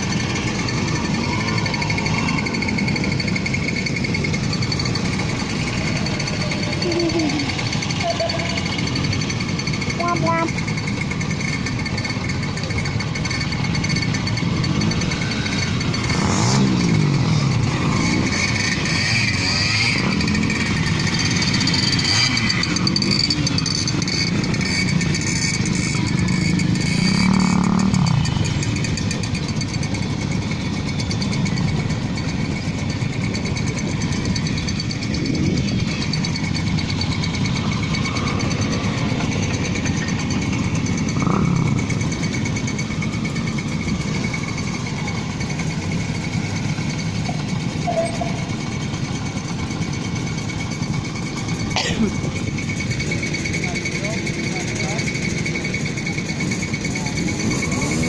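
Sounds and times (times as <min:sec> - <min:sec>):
moped engines revving: 0:00.0 - 0:58.0.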